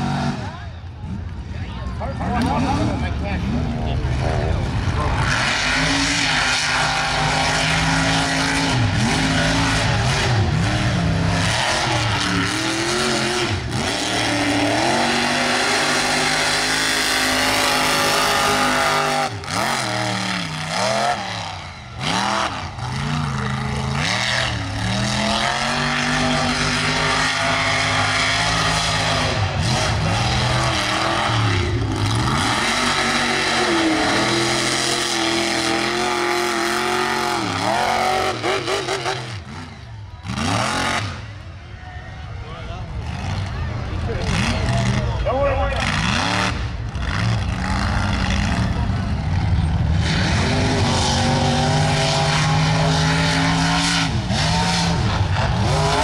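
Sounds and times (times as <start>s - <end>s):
truck engines revving hard: 0.0s - 56.0s.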